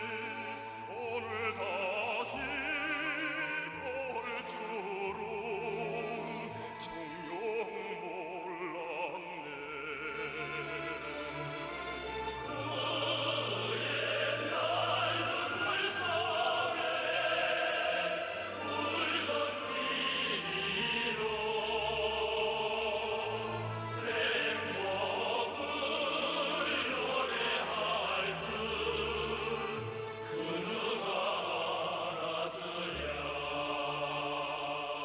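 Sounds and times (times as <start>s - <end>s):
operatic singing: 0.0s - 35.0s
orchestral accompaniment: 0.0s - 35.0s.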